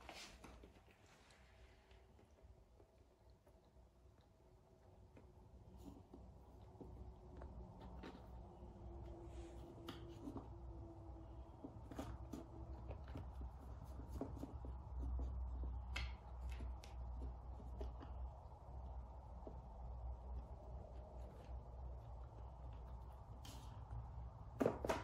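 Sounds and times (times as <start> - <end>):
cats tapping and scratching: 0.0 - 25.0.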